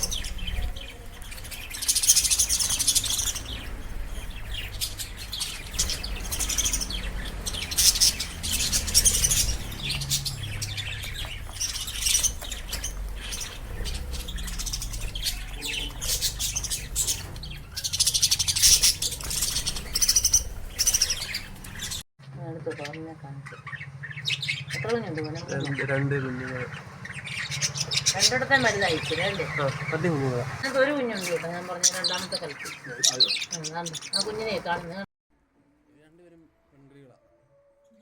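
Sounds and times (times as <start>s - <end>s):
lovebirds chirping: 0.0s - 35.1s.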